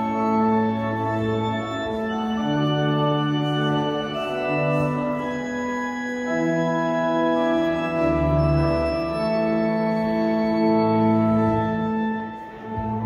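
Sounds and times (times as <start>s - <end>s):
pipe organ chords: 0.0s - 13.0s.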